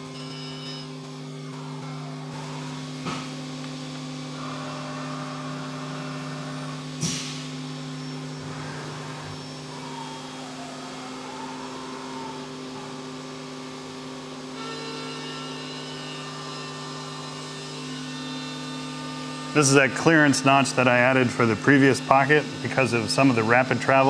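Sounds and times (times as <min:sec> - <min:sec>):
milling machine hum and whine: 0:00.0 - 0:24.0.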